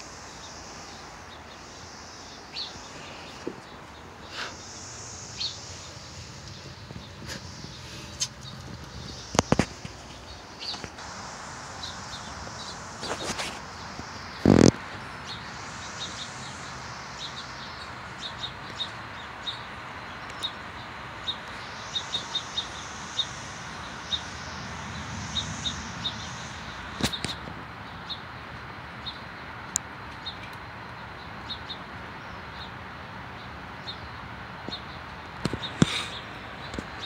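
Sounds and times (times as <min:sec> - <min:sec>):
steady hiss: 0:00.0 - 0:29.6, 0:34.2 - 0:37.0
small birds chirping: 0:00.0 - 0:37.0.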